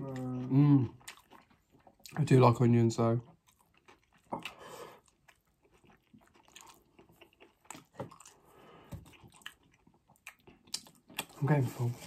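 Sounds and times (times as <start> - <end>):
chewing and biting food: 0.0 - 12.0.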